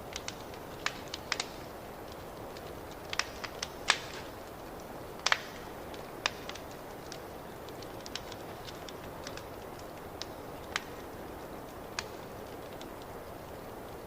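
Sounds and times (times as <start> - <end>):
fire soft hiss: 0.0 - 14.0
wood fire crackling and popping: 0.0 - 14.0.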